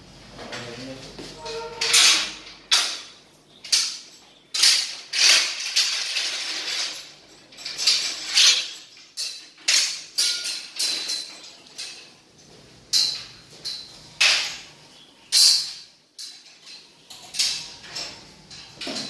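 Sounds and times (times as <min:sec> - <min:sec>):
swing chain clanking and rattling: 0:01.4 - 0:19.0.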